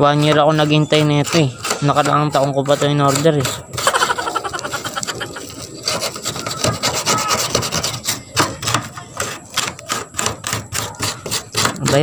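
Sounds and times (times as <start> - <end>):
hand scraping rusted metal roof: 0.0 - 12.0.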